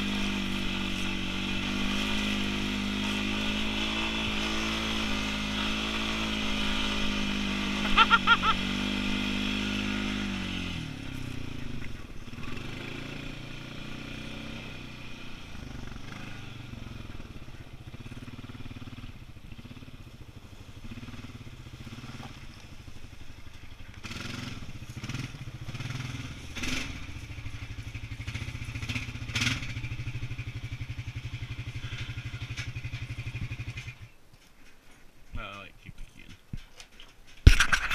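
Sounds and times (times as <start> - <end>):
atv engine running: 0.0 - 34.7.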